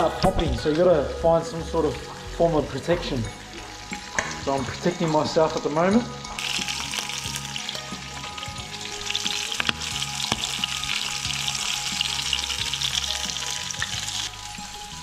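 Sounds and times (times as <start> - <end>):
calamari frying in hot oil: 0.0 - 15.0.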